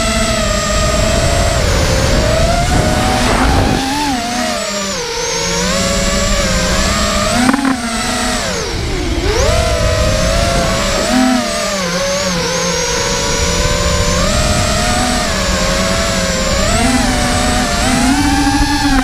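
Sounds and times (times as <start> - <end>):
drone propellers whining: 0.0 - 19.0
wind rushing over microphone: 0.0 - 19.0.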